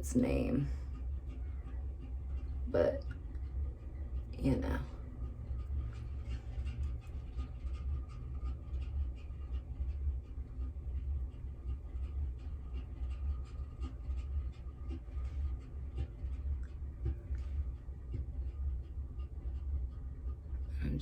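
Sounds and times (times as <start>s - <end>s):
steady low rumble: 0.0s - 21.0s
brush scratchy strokes: 0.2s - 20.6s.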